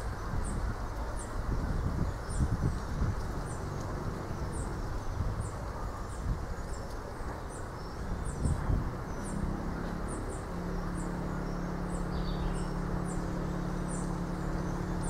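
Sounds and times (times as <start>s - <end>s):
wind gusting on microphone: 0.0s - 15.0s
wind in palm trees: 0.0s - 15.0s.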